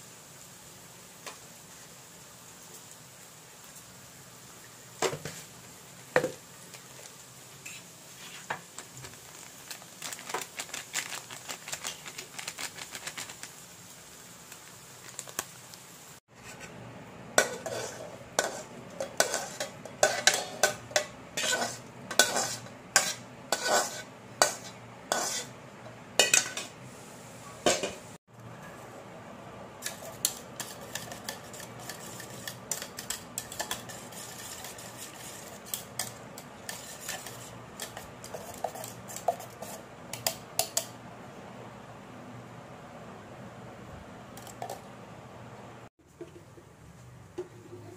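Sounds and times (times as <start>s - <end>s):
onions sizzling in a pan: 0.0s - 41.1s.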